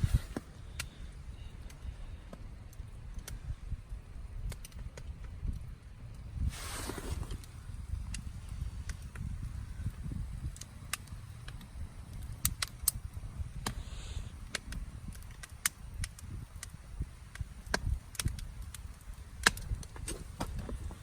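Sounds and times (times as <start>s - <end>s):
campfire crackling and popping: 0.0s - 21.0s
low fire rumble: 0.0s - 21.0s.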